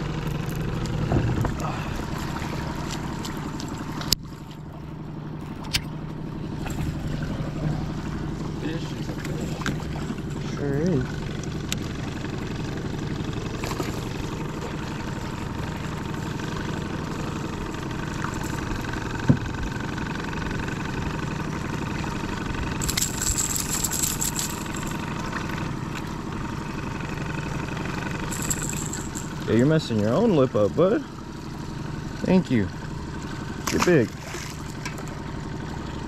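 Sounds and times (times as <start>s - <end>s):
outboard motor idling: 0.0s - 36.0s.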